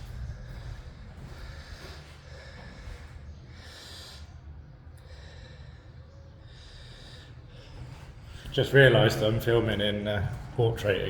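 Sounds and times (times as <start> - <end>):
man breathing: 0.0 - 10.7
steady low rumble: 0.0 - 11.0.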